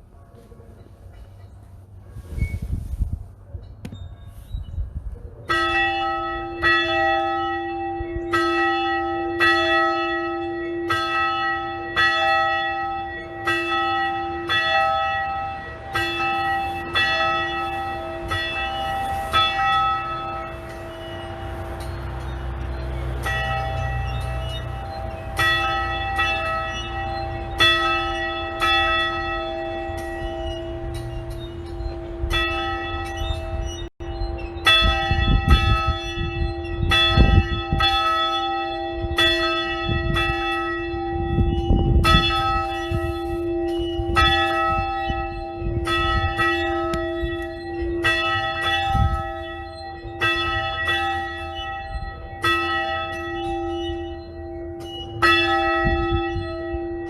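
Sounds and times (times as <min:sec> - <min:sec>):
church bell ringing: 0:00.0 - 0:57.0.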